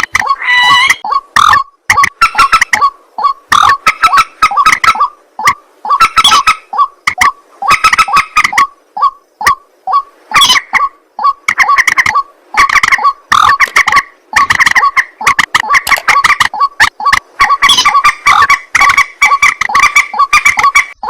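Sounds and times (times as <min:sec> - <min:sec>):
bird harsh croaking calls: 0:00.2 - 0:21.0.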